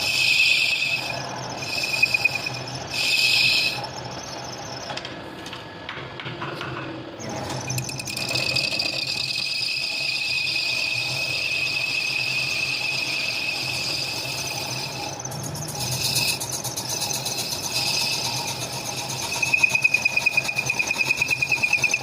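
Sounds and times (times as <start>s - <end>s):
high-pitched squeal of metal cutting: 0.0s - 4.9s, 7.2s - 22.0s.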